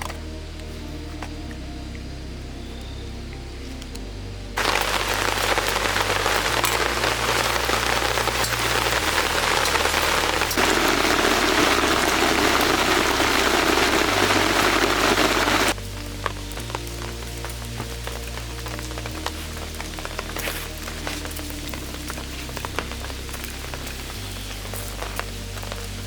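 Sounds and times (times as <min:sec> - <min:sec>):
background music with bass: 0:00.0 - 0:26.0
dense hiss of fine patter: 0:04.6 - 0:26.0.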